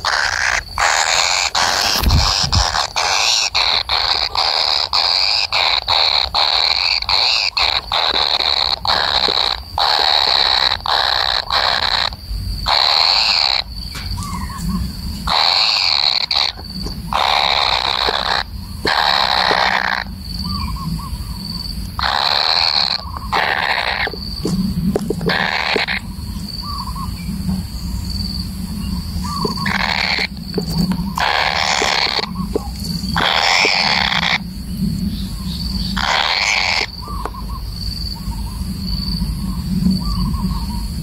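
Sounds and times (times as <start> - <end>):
bird chick rasping calls: 0.0 - 21.4, 22.0 - 27.2, 29.1 - 34.5, 35.2 - 38.4.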